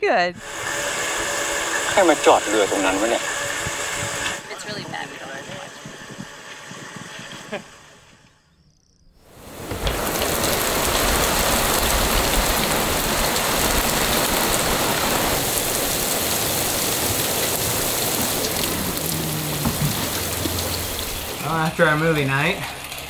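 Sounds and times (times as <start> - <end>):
heavy rain on the sea: 0.4 - 6.6, 9.2 - 23.0.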